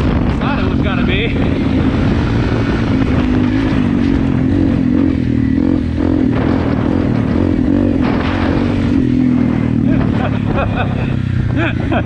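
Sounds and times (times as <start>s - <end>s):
motorcycle engine running: 0.0s - 12.0s
rumble and rattle of ride: 0.0s - 12.0s.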